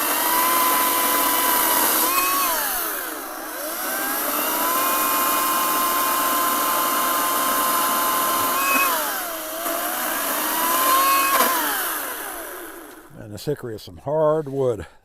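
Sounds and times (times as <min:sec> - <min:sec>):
chainsaw motor whining: 0:00.0 - 0:13.2.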